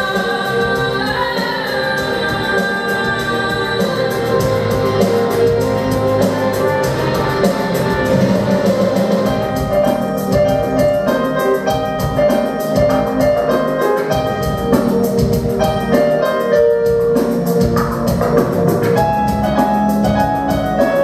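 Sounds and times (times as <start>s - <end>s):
keyboard and drums music: 0.0s - 21.0s.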